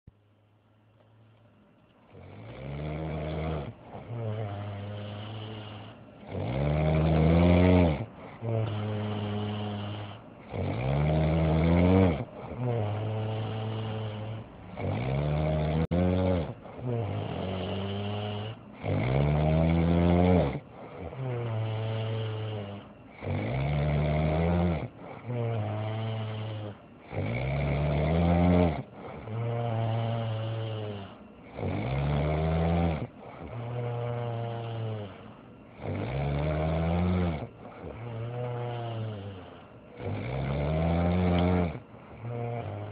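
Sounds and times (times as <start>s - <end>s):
man snoring loudly: 2.1s - 42.9s.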